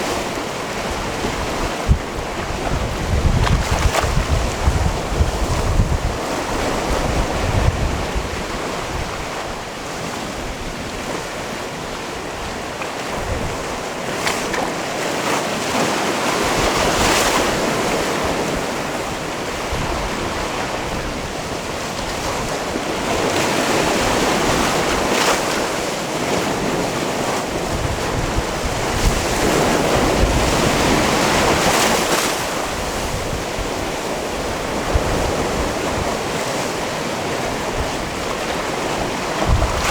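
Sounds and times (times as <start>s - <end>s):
wind buffeting microphone: 0.0s - 14.6s, 16.3s - 39.9s
waves on a rocky shore: 0.0s - 39.9s.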